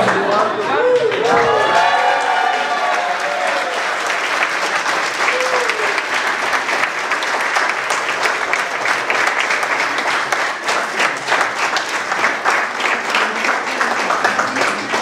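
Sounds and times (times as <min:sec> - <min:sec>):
audience clapping: 0:00.0 - 0:15.0.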